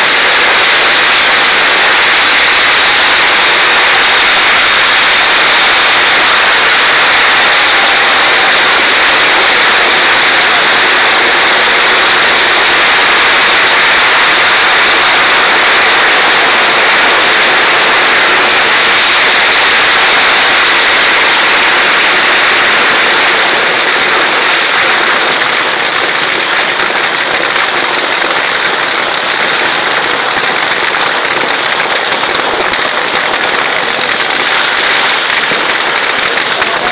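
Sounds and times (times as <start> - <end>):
firecrackers crackling: 0.0 - 36.9.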